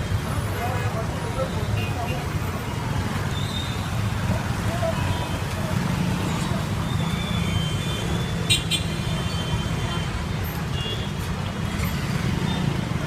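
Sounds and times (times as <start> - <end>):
passing traffic rumble: 0.0 - 13.0.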